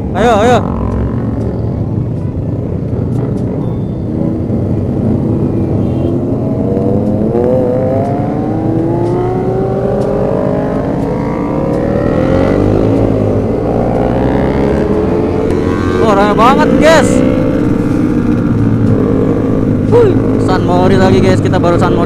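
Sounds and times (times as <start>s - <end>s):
motorcycle engines running: 0.0s - 22.0s
motorcycle engine accelerating: 0.2s - 22.0s.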